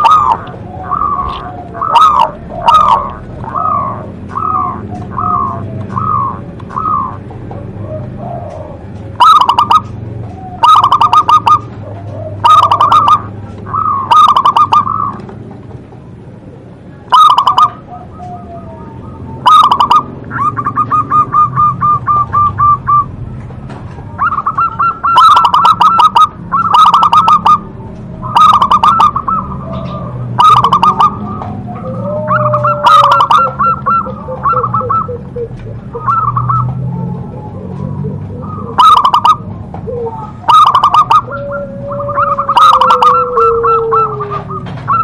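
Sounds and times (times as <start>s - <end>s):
rapid bird trill: 0.0s - 15.2s, 17.0s - 23.3s, 24.1s - 45.0s
dove cooing: 0.0s - 45.0s.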